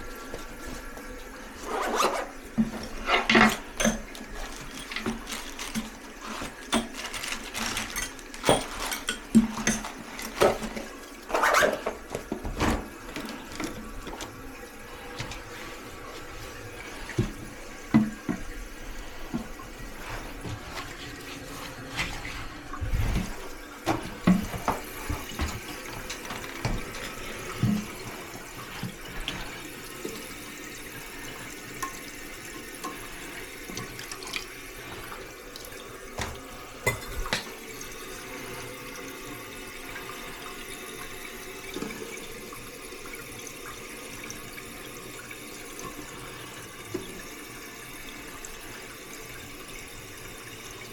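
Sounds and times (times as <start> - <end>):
water refilling toilet tank: 0.0 - 50.9.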